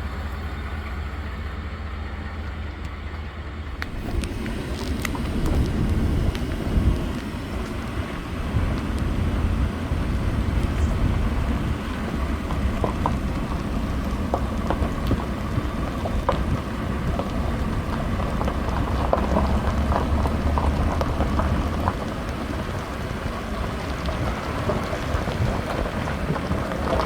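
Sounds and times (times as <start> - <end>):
gravel crunching: 0.0 - 27.0
vehicle rumble on dirt road: 0.0 - 27.0.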